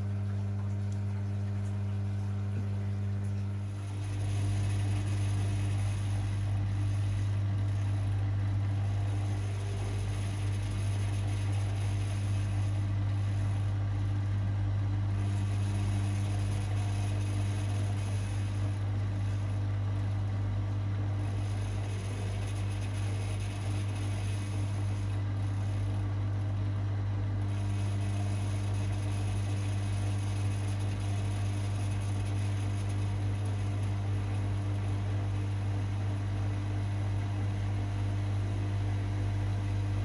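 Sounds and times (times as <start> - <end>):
washing machine running: 0.0 - 40.0.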